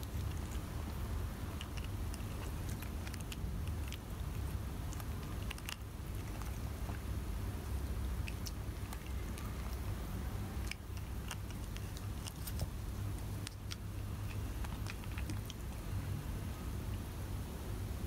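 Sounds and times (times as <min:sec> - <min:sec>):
cats gnawing a dry stick: 0:00.0 - 0:16.6
low steady hum: 0:00.0 - 0:18.0.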